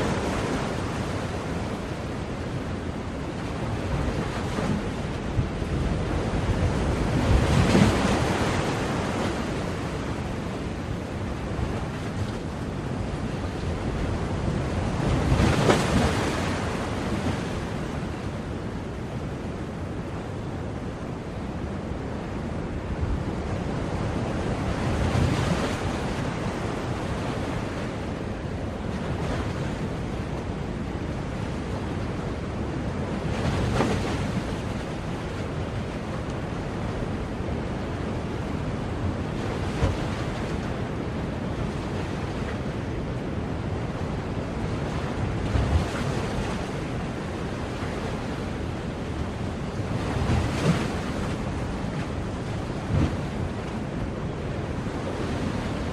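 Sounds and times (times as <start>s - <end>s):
ocean waves washing on shore: 0.0s - 55.9s.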